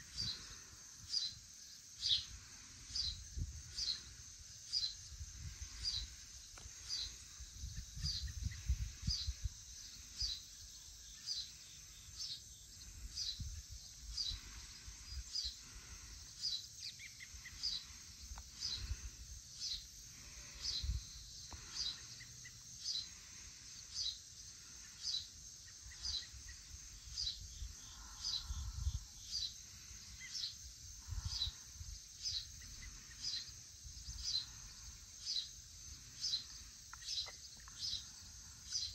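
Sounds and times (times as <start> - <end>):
insects humming: 0.0 - 38.9.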